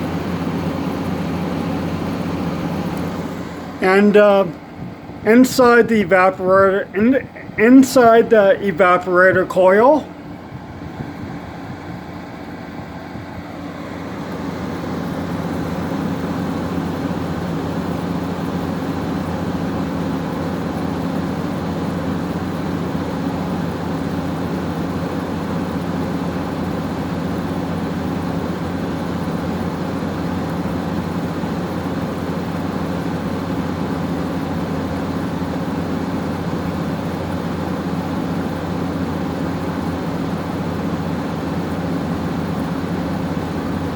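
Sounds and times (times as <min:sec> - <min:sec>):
air conditioner hum: 0:00.0 - 0:43.9
fan blowing air: 0:00.0 - 0:43.9.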